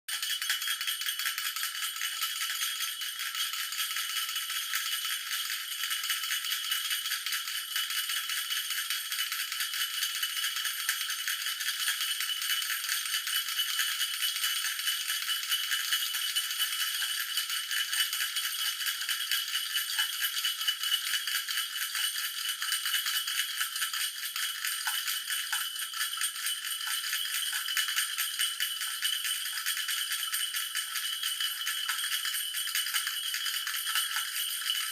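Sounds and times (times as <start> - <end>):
toy bell jingling: 0.1 - 34.9.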